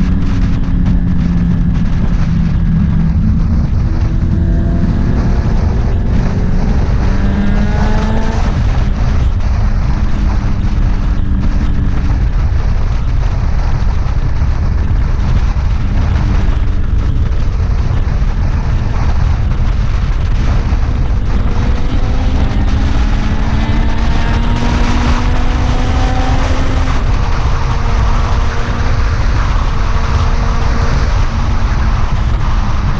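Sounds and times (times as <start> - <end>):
motorcycle engine: 0.0 - 32.9
wind rumble on microphone: 0.0 - 32.9.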